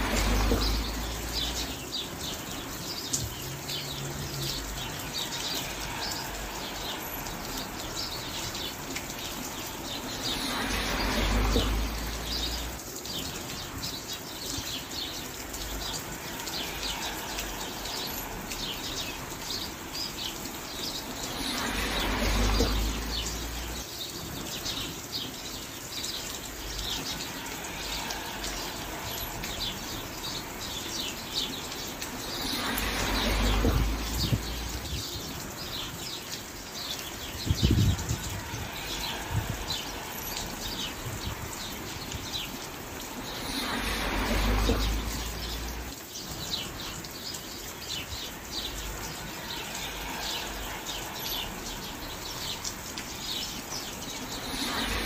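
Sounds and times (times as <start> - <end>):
small birds chirping: 0.0 - 55.0
steady rain: 0.0 - 55.0.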